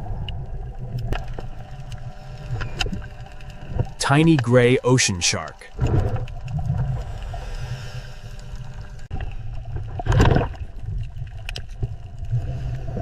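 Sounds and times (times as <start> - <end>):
water churning and gurgling: 0.0 - 13.0.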